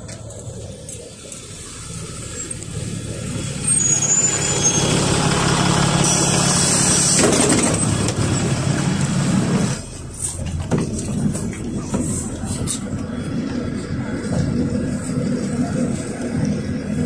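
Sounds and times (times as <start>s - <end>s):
diesel bus engine running: 0.0s - 17.0s.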